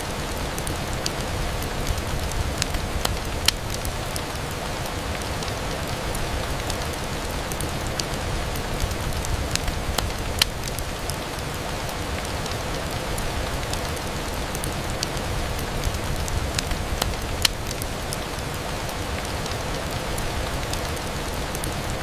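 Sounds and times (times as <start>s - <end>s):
rain on a window: 0.0s - 22.0s
sharp ticks and pops: 0.5s - 21.8s.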